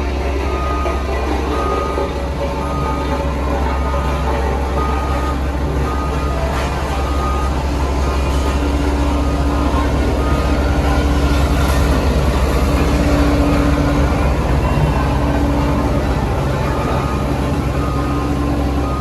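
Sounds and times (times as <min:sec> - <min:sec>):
construction machinery diesel engines: 0:00.0 - 0:19.0.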